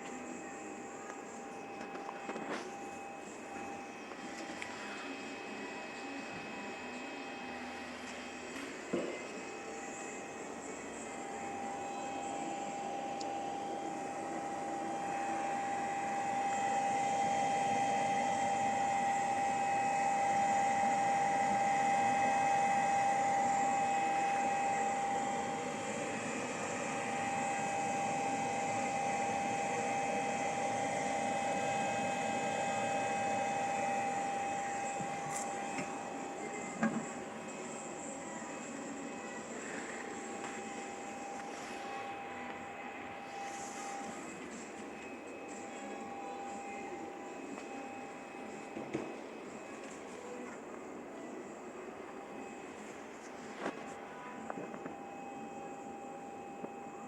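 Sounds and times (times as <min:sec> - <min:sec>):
milling spindle high whine: 0:00.0 - 0:57.0
running machine noise: 0:00.0 - 0:57.0.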